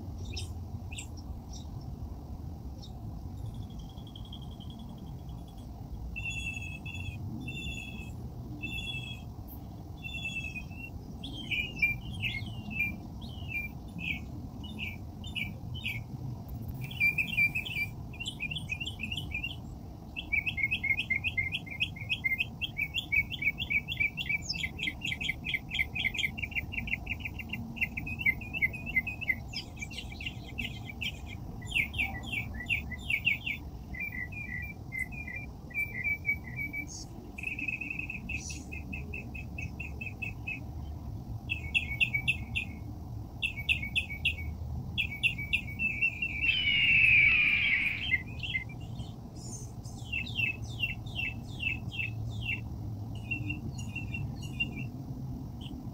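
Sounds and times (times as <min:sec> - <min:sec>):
songbirds chirping in trills: 0:00.0 - 0:55.9.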